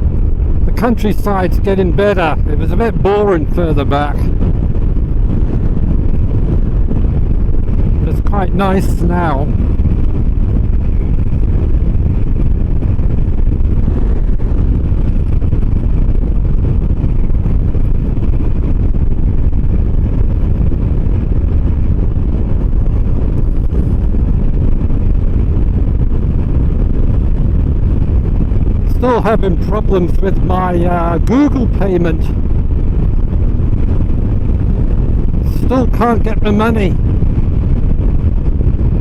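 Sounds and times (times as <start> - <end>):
scooter engine and road noise: 0.0 - 39.0
wind rushing on microphone: 0.0 - 39.0.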